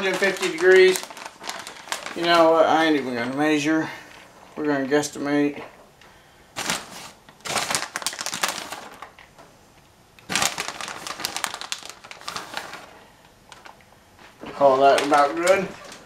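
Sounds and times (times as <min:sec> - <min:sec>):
plastic bag crinkling: 0:00.0 - 0:04.3, 0:06.5 - 0:09.3, 0:10.2 - 0:16.0.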